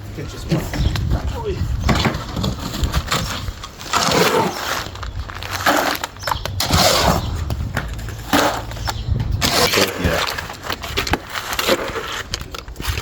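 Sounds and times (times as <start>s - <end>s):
scraping and crunching of cement: 0.3s - 13.0s.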